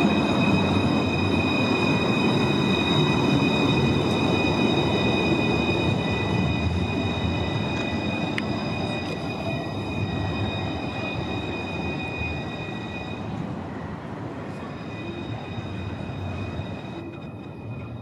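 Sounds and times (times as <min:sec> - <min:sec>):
tram running gear rumble: 0:00.0 - 0:18.0
tram whine: 0:00.0 - 0:18.0.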